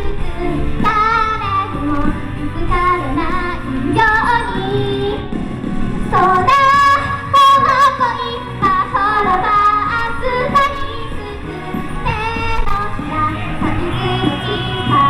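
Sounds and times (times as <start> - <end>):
woman singing pop song: 0.0 - 5.4, 6.1 - 15.0
backing music: 0.0 - 15.0.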